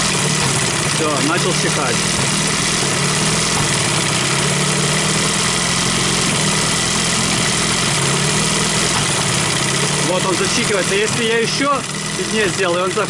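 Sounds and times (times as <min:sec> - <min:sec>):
outboard motor idling unevenly: 0:00.0 - 0:13.0.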